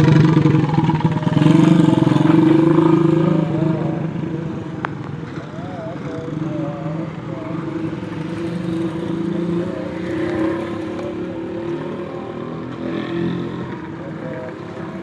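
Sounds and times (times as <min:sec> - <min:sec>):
vehicle engines humming: 0:00.0 - 0:15.0.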